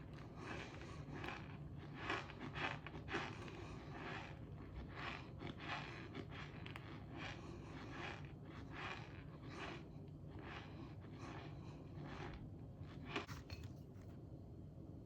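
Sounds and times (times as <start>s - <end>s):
person chewing crunchy food: 0.0s - 13.4s.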